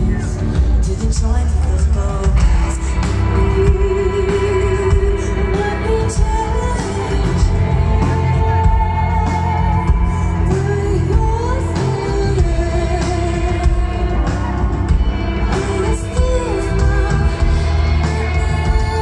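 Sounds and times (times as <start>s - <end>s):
rock band playing live: 0.0s - 19.0s
woman singing: 0.0s - 19.0s.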